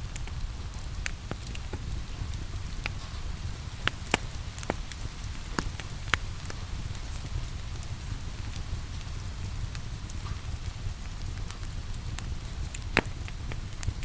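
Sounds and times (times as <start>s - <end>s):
rain hiss: 0.0s - 14.0s
wood fire crackling and popping: 0.0s - 14.0s.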